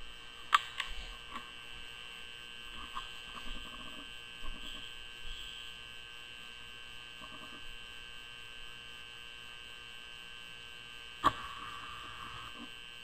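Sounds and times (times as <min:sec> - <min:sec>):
electrical mains hum with whine: 0:00.0 - 0:13.0.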